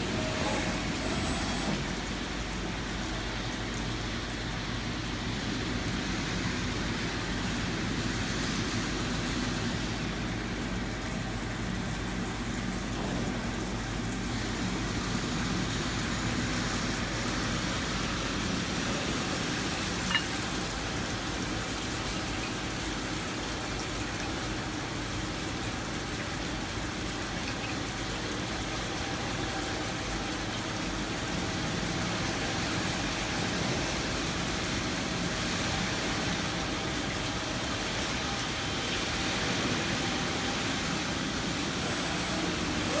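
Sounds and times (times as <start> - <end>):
drilling machine mechanical hum: 0.0 - 43.0.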